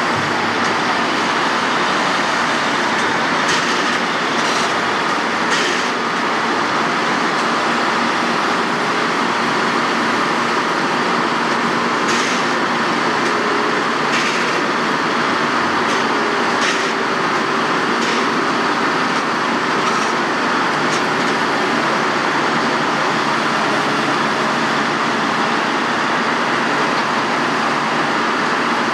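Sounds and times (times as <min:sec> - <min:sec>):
heavy machinery running: 0:00.0 - 0:28.9.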